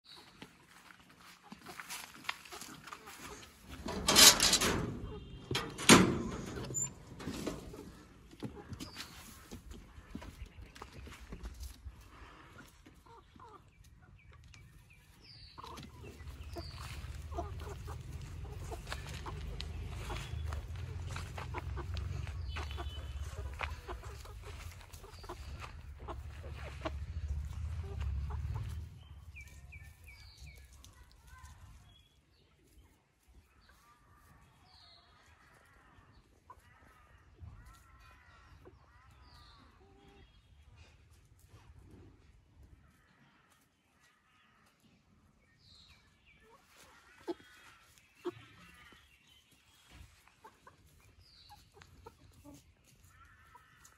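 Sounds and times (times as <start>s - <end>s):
chicks clucking: 0.1s - 44.9s, 45.8s - 53.9s.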